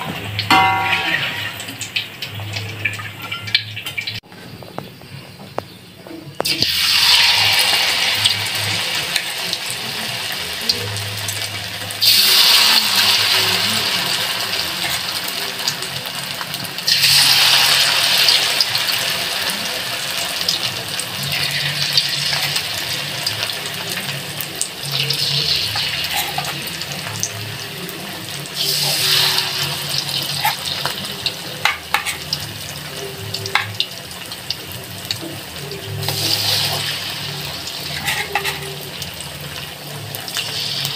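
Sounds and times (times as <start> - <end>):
food sizzling in hot oil: 0.0 - 4.2, 6.4 - 40.9.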